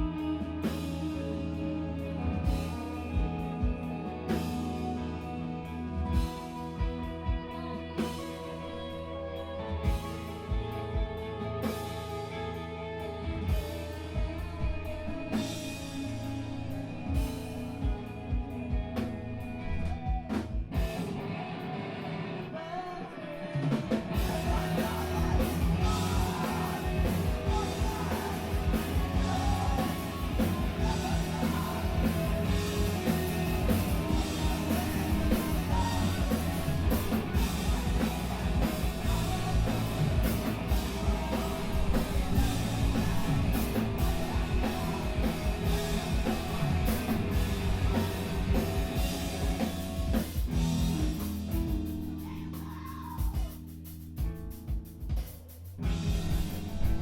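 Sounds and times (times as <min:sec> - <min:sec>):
live screamo band playing: 0:00.0 - 0:21.8, 0:23.3 - 0:57.0
guitar ringing: 0:00.0 - 0:52.6
drums: 0:00.0 - 0:57.0.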